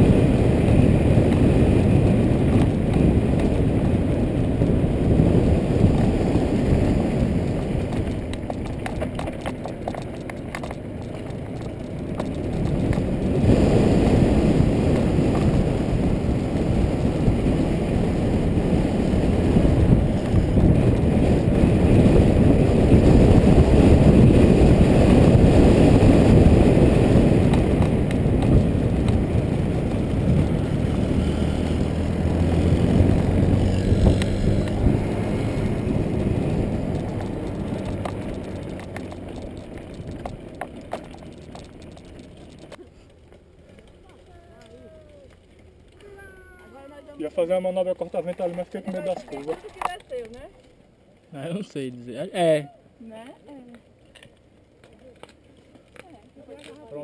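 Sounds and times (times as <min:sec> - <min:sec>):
wheels rattling on cobblestones: 0:00.0 - 0:57.0.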